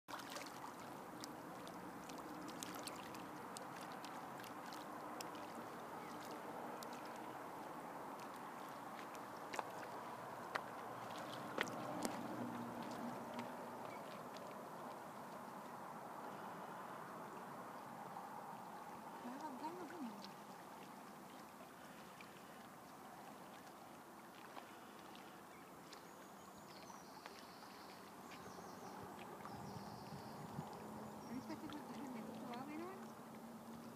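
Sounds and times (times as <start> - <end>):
water lapping on rocky shore: 0.1 - 33.9.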